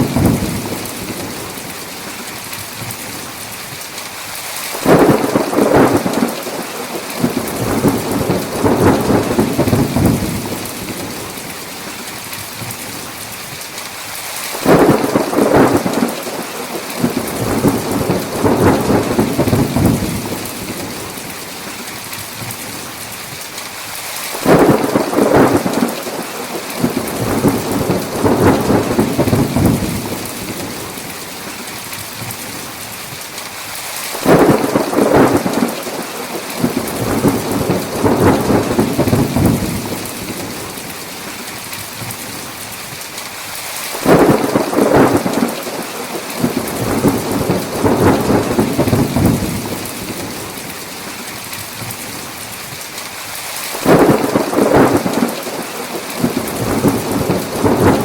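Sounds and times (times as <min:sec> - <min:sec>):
thunder cracking and rumbling: 0:00.0 - 0:03.2, 0:04.7 - 0:13.1, 0:14.5 - 0:22.9, 0:24.3 - 0:32.5, 0:34.1 - 0:42.4, 0:43.9 - 0:51.1, 0:53.7 - 0:58.0
heavy rain: 0:00.0 - 0:58.0.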